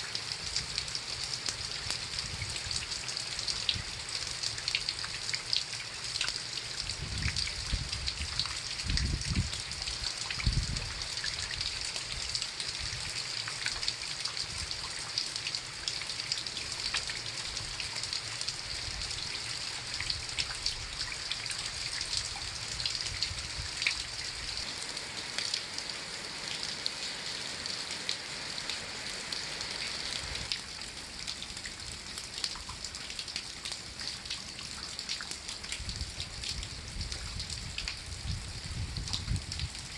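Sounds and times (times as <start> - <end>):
raindrops tapping close by: 0.0 - 39.9
steady rain falling: 0.0 - 39.9.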